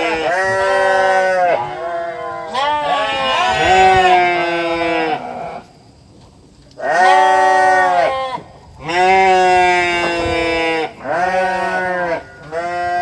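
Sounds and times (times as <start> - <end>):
goats bleating: 0.0 - 5.7, 6.8 - 13.0.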